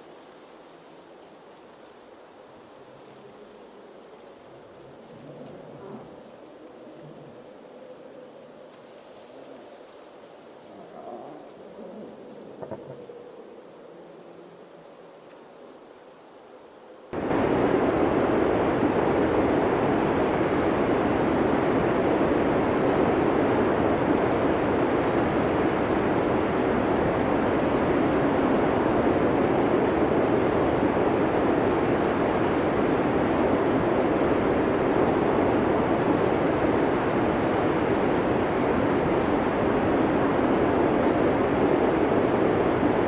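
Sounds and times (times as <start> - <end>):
blizzard wind rushing: 0.0 - 43.0.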